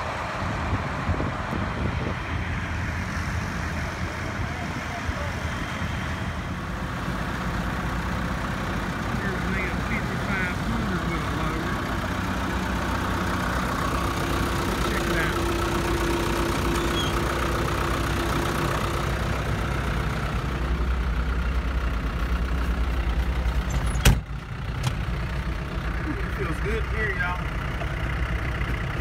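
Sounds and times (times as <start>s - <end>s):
engine idling with low rumble: 0.0s - 29.0s.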